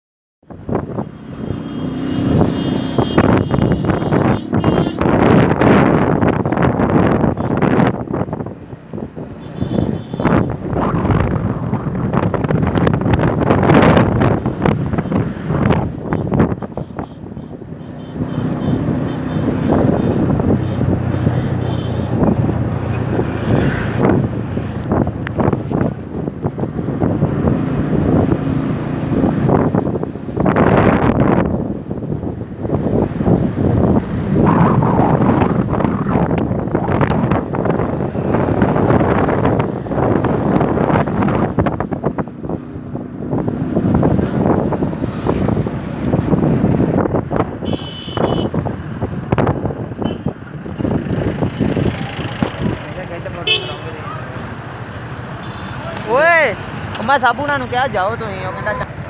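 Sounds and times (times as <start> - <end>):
wind noise on microphone: 0.4 - 52.9
low road rumble: 0.4 - 59.0.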